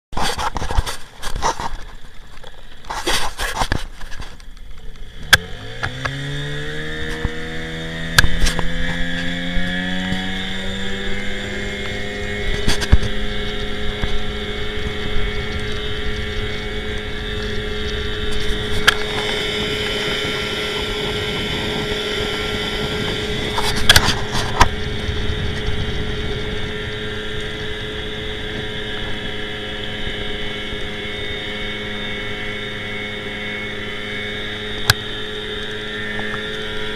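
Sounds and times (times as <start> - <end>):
outboard motor running: 0.1 - 36.9.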